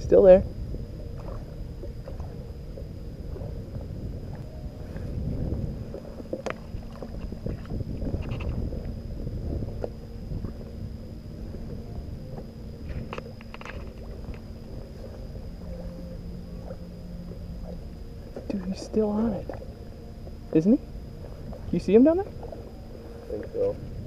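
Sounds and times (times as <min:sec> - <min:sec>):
wind buffeting microphone: 0:00.0 - 0:16.8, 0:20.5 - 0:24.0
faint steady hum: 0:00.0 - 0:24.0
water lapping against hull: 0:00.0 - 0:24.0.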